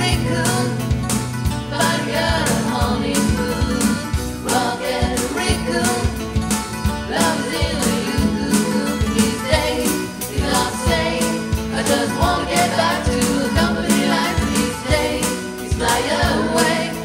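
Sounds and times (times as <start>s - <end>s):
pop song singing: 0.0s - 17.0s
steady drum beat: 0.0s - 17.0s.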